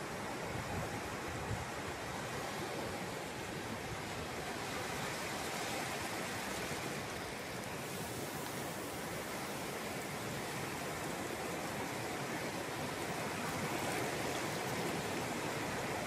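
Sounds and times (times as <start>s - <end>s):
small waves breaking on sand: 0.0s - 16.0s.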